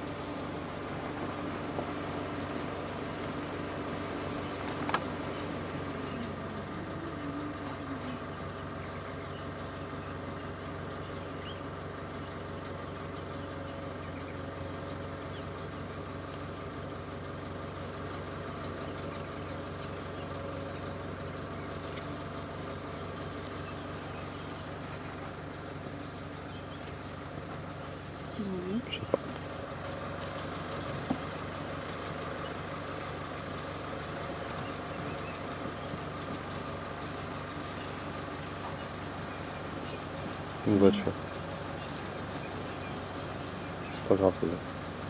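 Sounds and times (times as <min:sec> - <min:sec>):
vehicle engine idling: 0:00.0 - 0:45.0.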